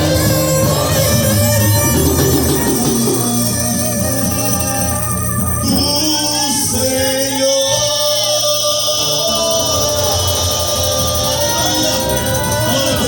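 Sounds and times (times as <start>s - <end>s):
live gospel band: 0.0s - 13.0s
person singing: 0.0s - 13.0s.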